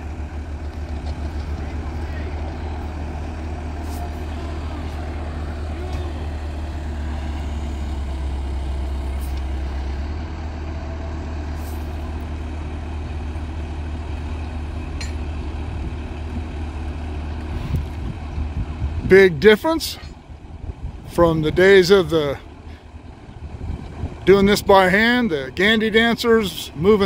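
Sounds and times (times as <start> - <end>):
machine engine rumbling: 0.0 - 27.0.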